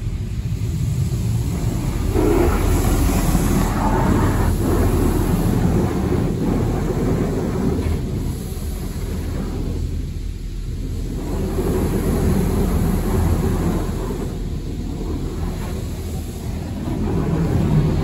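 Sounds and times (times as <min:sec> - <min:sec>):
steady low rumble: 0:00.0 - 0:18.0
water spray hitting car: 0:00.0 - 0:18.0.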